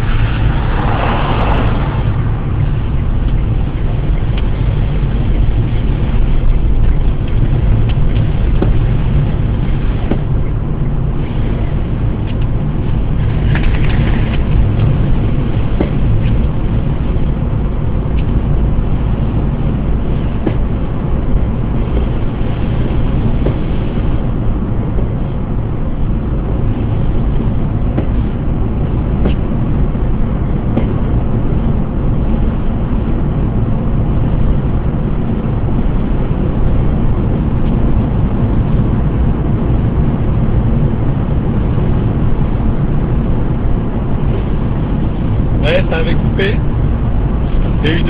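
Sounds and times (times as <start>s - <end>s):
car interior road noise: 0.0s - 48.0s.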